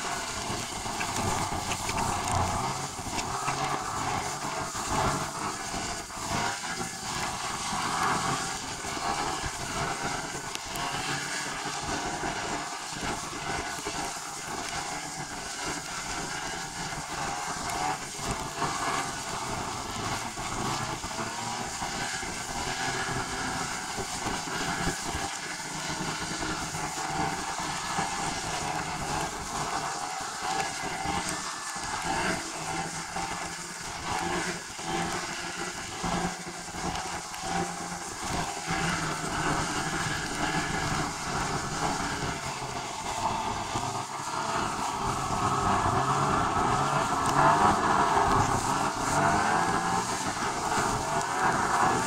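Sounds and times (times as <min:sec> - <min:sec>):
vehicle running noise: 0:00.0 - 0:52.0.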